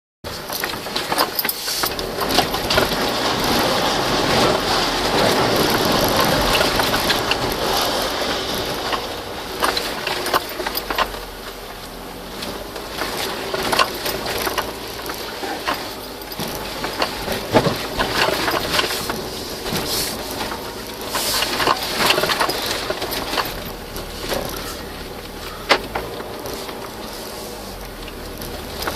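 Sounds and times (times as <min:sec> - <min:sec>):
wheels crunching and knocking: 0:00.2 - 0:28.9
vehicle engine running: 0:00.3 - 0:28.9.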